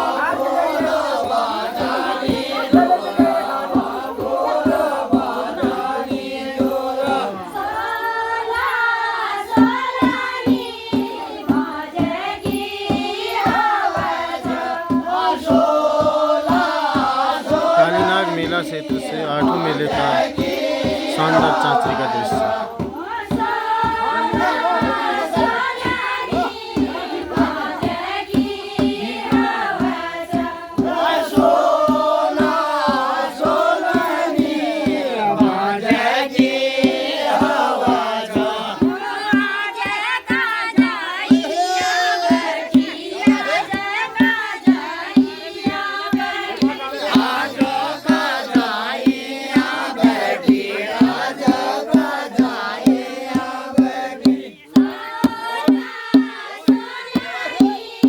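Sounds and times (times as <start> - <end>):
drum beating: 0.0 - 58.0
group singing folk song: 0.0 - 58.0.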